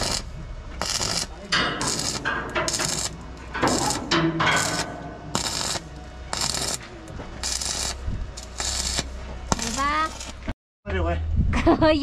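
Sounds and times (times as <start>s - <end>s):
arc welder crackling: 0.0s - 10.5s
steady low hum: 0.0s - 10.5s.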